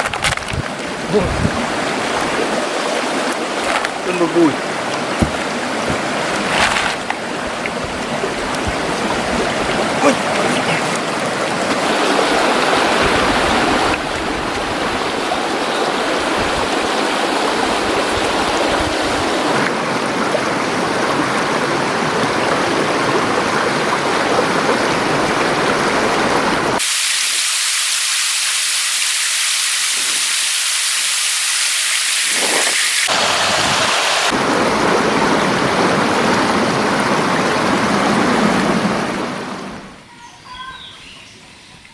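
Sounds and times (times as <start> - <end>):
stream water rushing: 0.0 - 40.1.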